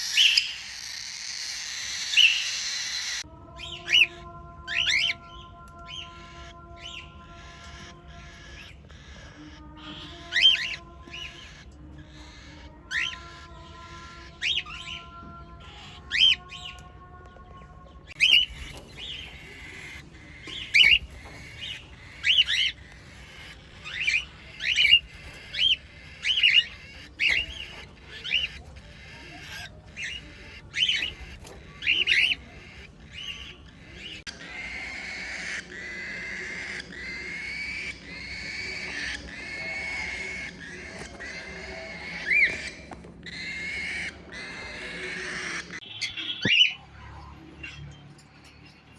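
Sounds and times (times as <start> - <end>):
cockatiels calling: 0.0 - 16.9, 17.9 - 48.9.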